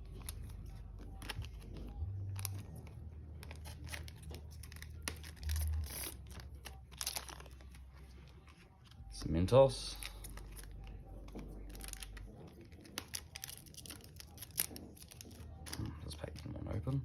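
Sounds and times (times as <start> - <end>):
cards rustling and tapping: 0.0 - 17.0
foil wrapper crinkling: 0.0 - 17.0.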